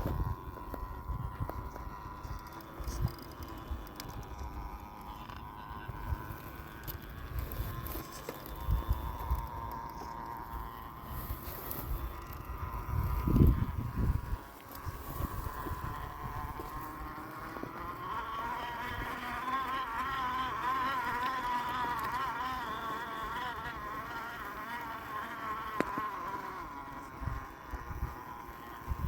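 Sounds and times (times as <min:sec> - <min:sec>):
electric motor and gears whining: 0:00.0 - 0:29.0.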